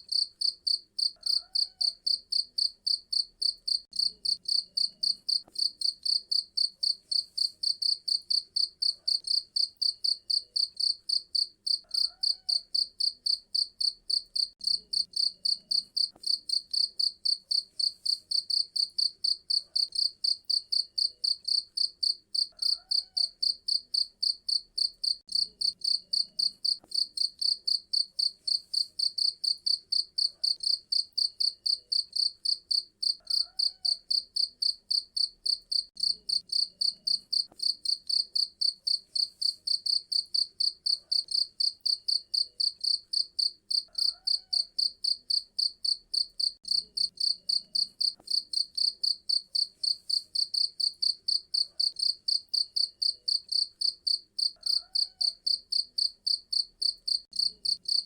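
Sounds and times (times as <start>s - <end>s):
cricket chirping: 0.1s - 58.0s.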